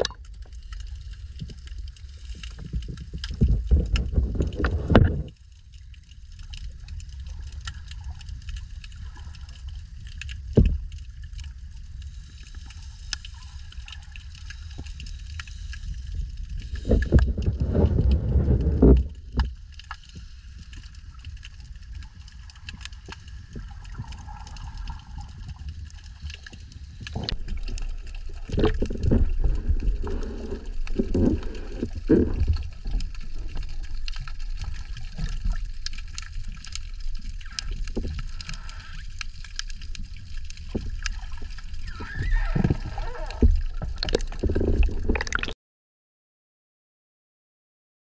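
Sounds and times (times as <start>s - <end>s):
muffled underwater rumble and gurgling: 0.0s - 45.5s.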